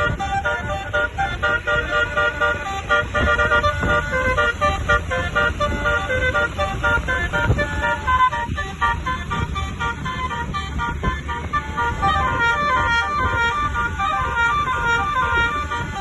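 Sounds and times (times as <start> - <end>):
musical air horns melody: 0.0 - 16.0.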